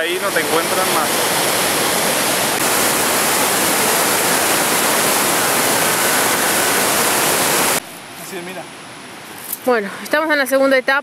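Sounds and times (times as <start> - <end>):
waterfall rushing over boulders: 0.0 - 9.0.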